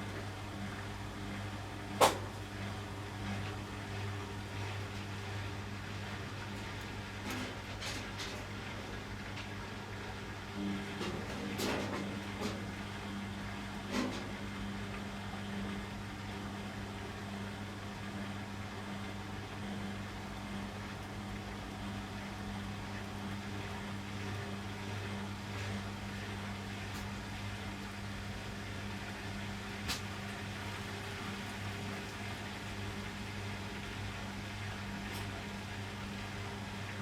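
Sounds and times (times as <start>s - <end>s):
washing machine humming: 0.0s - 37.0s.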